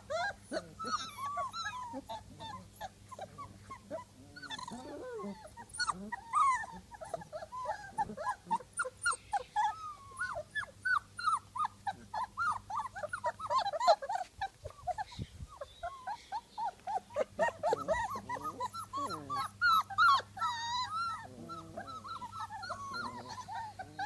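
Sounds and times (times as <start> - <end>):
puppies whining: 0.0 - 24.0.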